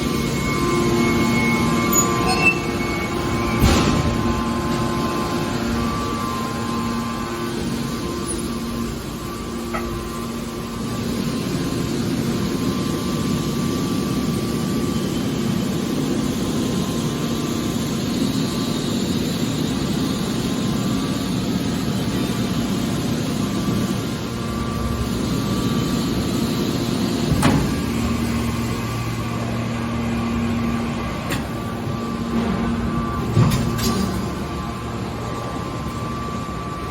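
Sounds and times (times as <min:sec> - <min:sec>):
hydraulic unit humming: 0:00.0 - 0:36.9.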